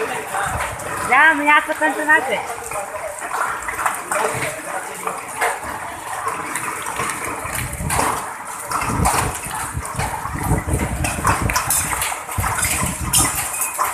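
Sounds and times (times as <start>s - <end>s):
storm water rushing and splashing: 0.0s - 13.9s.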